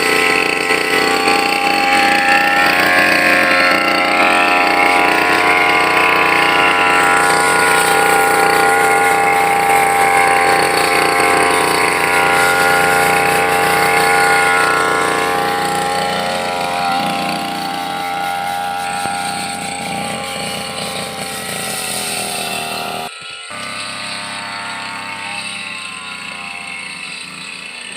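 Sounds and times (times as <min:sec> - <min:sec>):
brush cutter engine running: 0:00.0 - 0:27.9.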